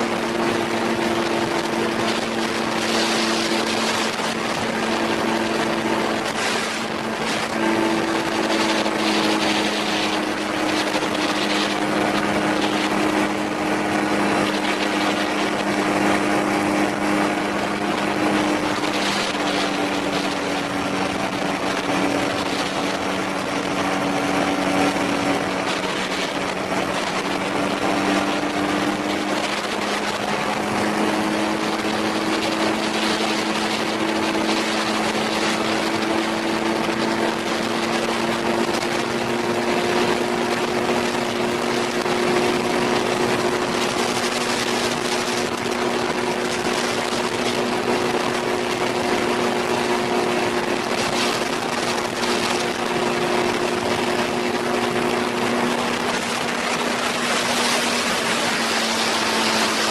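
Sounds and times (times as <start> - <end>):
aircraft engine and propeller: 0.0 - 59.9.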